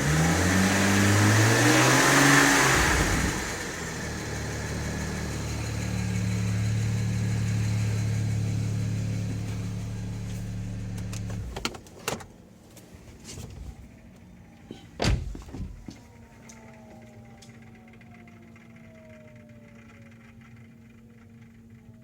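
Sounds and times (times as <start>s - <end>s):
car engine running: 0.0s - 12.0s, 13.0s - 22.0s.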